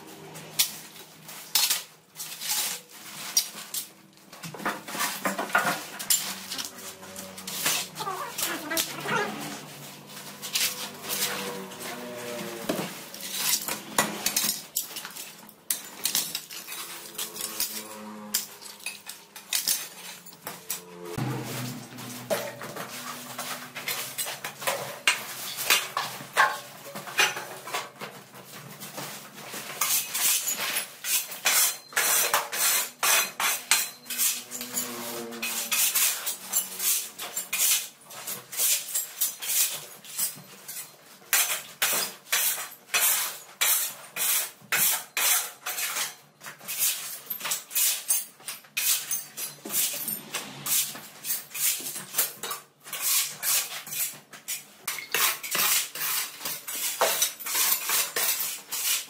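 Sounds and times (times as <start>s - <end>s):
clattering of metal and crockery: 0.1s - 59.0s.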